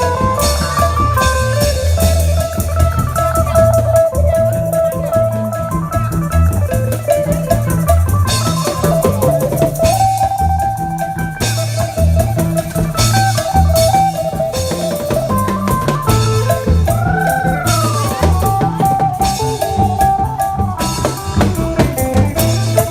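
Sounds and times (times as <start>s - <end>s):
drum kit with cymbals: 0.0s - 22.9s
walking bass line: 0.0s - 22.9s.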